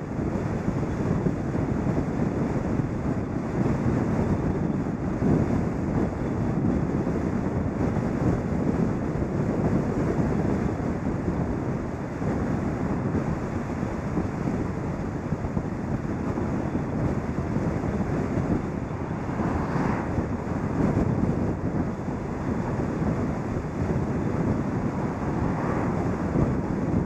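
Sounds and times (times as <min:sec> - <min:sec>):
wind buffeting microphone: 0:00.0 - 0:27.0
tyres rumbling on road: 0:00.1 - 0:27.0.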